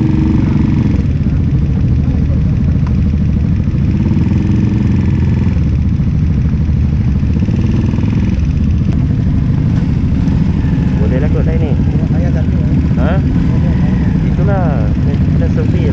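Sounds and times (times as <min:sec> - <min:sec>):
motorcycle engine running at low revs: 0:00.0 - 0:15.9.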